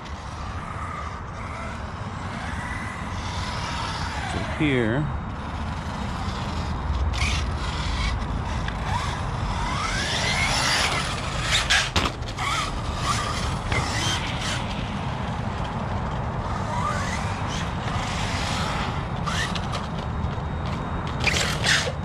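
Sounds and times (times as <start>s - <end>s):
electric motor whining: 0.0s - 22.0s
steady noise: 0.0s - 22.0s.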